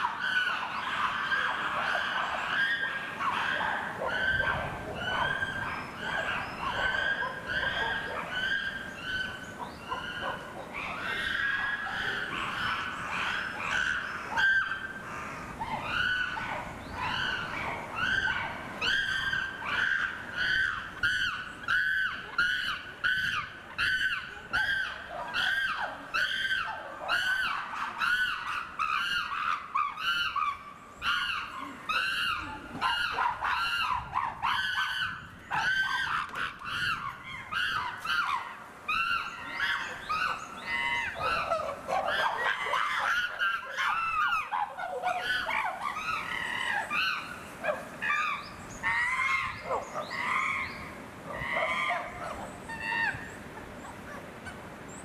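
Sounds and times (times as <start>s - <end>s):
chimpanzees screaming calls: 0.0s - 55.0s.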